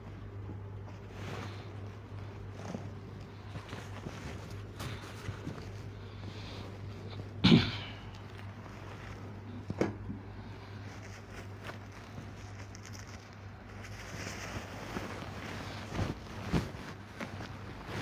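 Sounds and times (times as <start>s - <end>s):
cloth rustling: 0.0s - 7.4s, 8.1s - 18.0s
low electrical hum: 0.0s - 18.0s.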